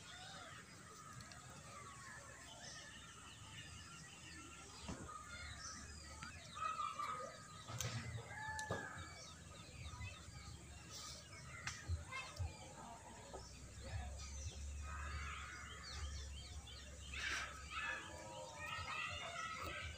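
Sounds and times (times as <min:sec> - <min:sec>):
birds chirping and calling: 0:00.0 - 0:19.9.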